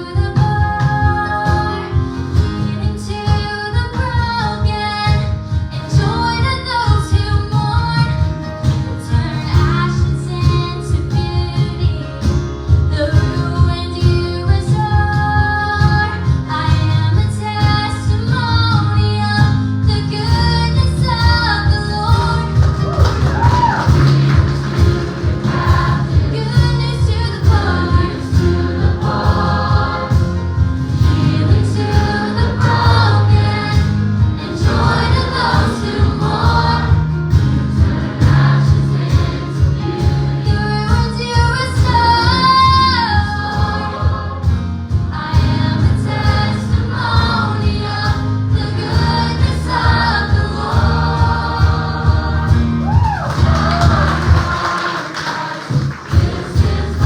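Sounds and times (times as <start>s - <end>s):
women singing gospel song: 0.0s - 12.1s, 12.9s - 57.0s
band with strong bass: 0.0s - 57.0s.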